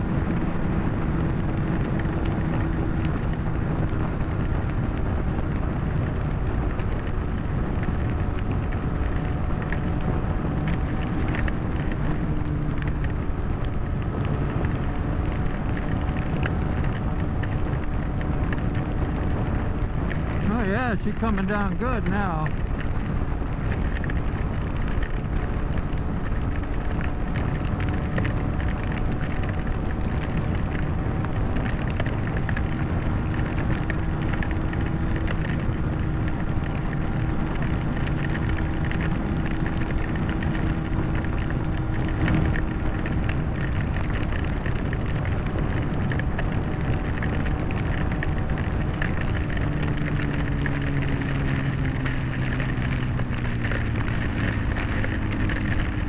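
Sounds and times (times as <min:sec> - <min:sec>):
wind and rain rush: 0:00.0 - 0:56.0.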